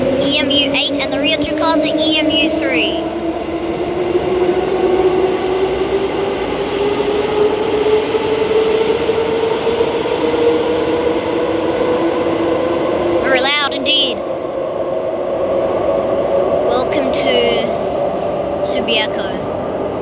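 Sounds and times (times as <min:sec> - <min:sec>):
wheels hissing on rail: 0:00.0 - 0:18.0
electric train pulling out: 0:00.0 - 0:20.0.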